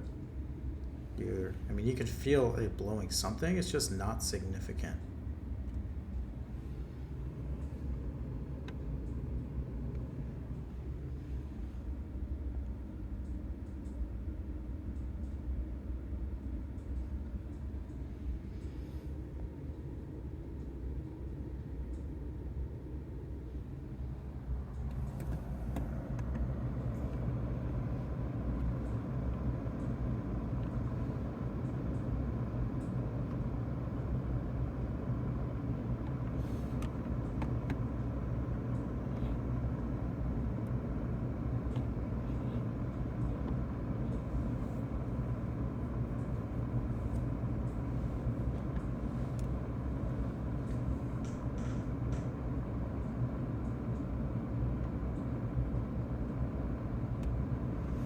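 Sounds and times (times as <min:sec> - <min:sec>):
blower fan rushing air: 0:00.0 - 0:58.0
faint steady whine: 0:00.0 - 0:58.0.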